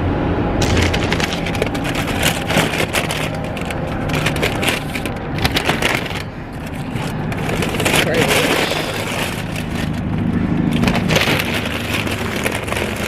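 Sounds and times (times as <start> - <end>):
paper bags rustling: 0.6 - 13.0.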